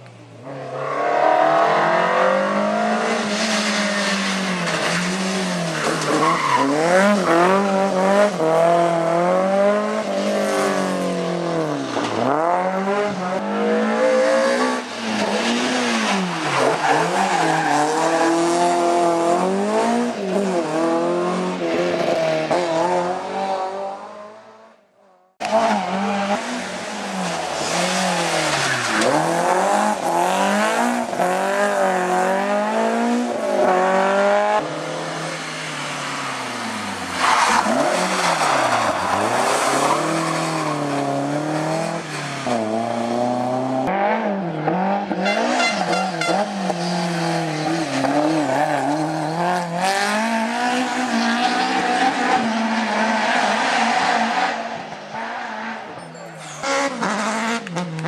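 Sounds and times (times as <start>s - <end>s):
rally car engine revving: 0.5s - 24.6s, 25.4s - 55.9s, 56.6s - 58.0s.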